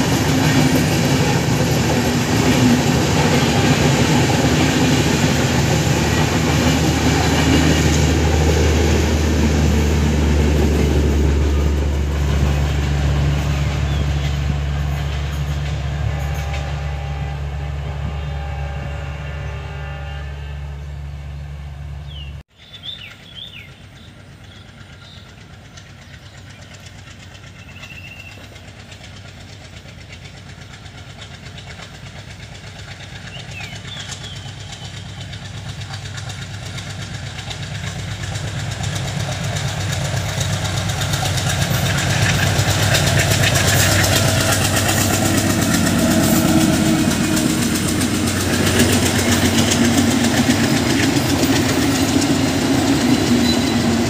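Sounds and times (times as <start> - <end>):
train wheels running: 0.0 - 22.2, 22.8 - 54.0
diesel locomotive engine drone: 0.0 - 54.0.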